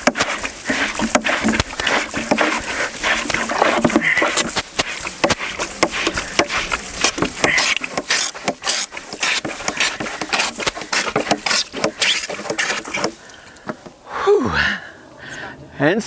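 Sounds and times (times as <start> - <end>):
water spurting and splashing: 0.0 - 13.8
hand pump plunger rasping: 0.0 - 13.9.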